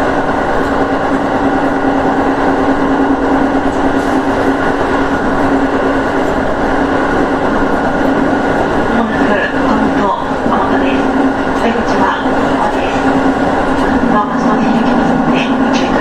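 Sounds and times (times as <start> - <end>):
electric train hum: 0.0 - 16.0
train wheels on track: 0.0 - 16.0.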